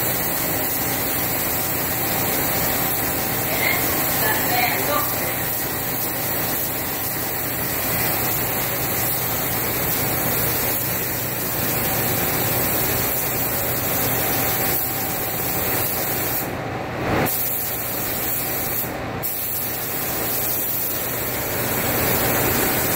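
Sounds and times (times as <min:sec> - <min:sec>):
spray gun hissing: 0:00.0 - 0:16.5, 0:17.3 - 0:22.9.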